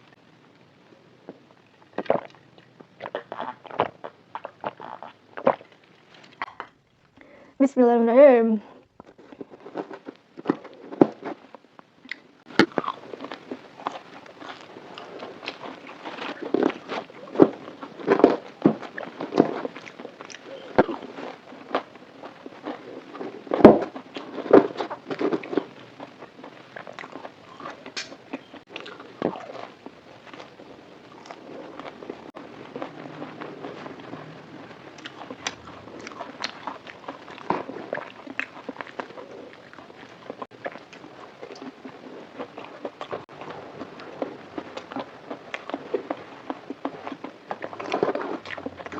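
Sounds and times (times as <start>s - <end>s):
chewing crispy fried food: 0.0s - 7.4s, 8.8s - 48.9s.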